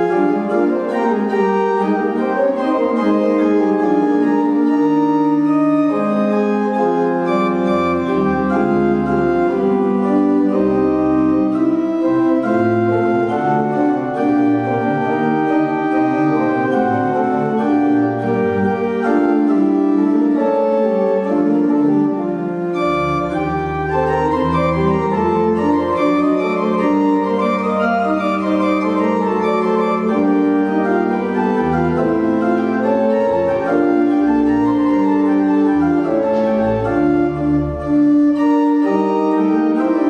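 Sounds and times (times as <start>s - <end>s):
church organ chords: 0.0s - 40.0s
deep organ pedal bass notes: 0.0s - 40.0s.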